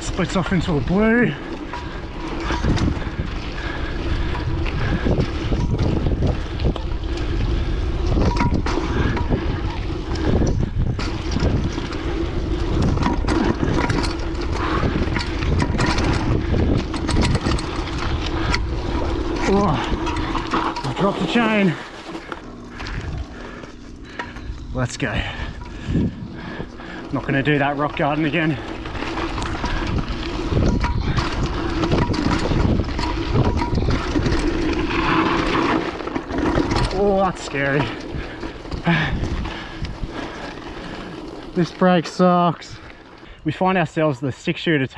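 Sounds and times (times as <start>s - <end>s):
tyre noise on dirt and rock: 0.0s - 43.2s
bike rattles and knocks: 0.0s - 43.4s
wind buffeting microphone: 0.0s - 43.5s.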